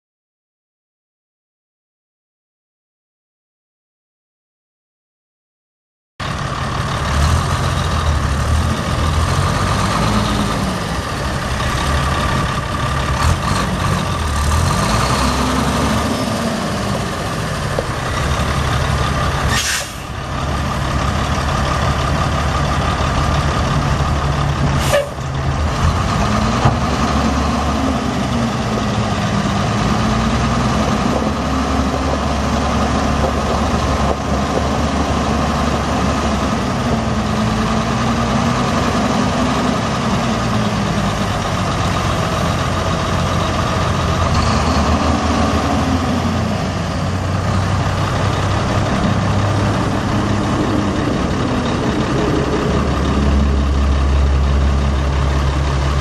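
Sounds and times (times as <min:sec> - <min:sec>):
diesel truck engine revving: 0:06.2 - 0:56.0.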